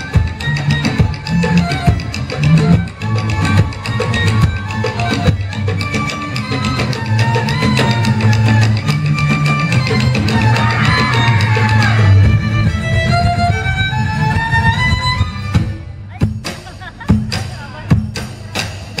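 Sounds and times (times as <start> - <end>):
violin melody: 0.0 - 16.1
drums: 0.0 - 19.0
deep bass line: 0.7 - 18.3.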